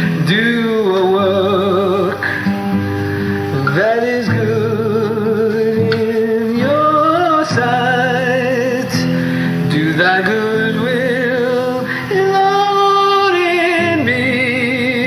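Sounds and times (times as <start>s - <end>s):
guitar accompaniment: 0.0s - 15.0s
person singing with vibrato: 0.0s - 15.0s.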